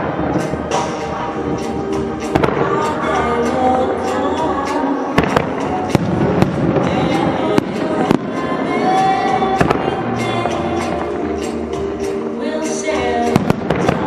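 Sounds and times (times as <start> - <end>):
fireworks launching and bursting: 0.0 - 14.0
music playing: 0.0 - 14.0.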